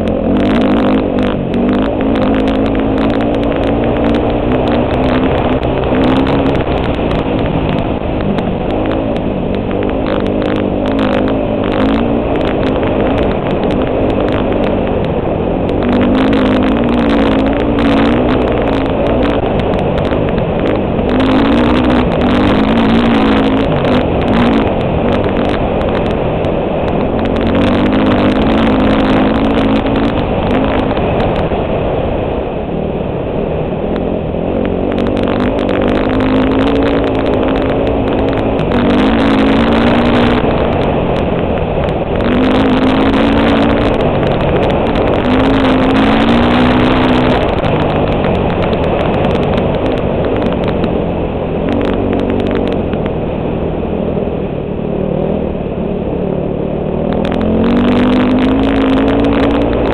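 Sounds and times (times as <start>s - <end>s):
dirt bike engine revving: 0.0s - 31.5s, 33.9s - 53.2s, 56.6s - 59.9s.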